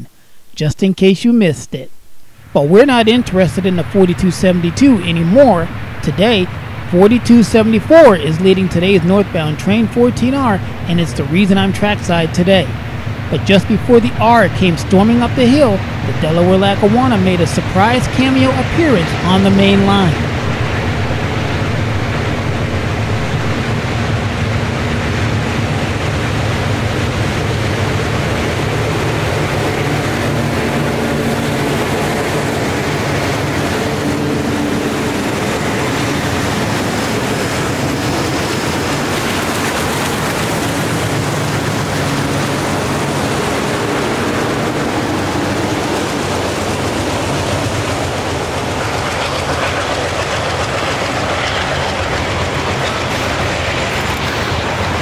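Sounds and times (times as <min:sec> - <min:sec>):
diesel locomotives droning: 0:02.2 - 0:55.0
freight cars rolling over rails: 0:02.9 - 0:55.0.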